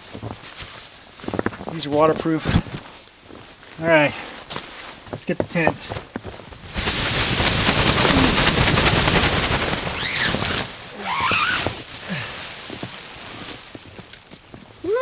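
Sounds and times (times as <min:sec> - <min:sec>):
tent fabric rustling: 0:00.0 - 0:15.0.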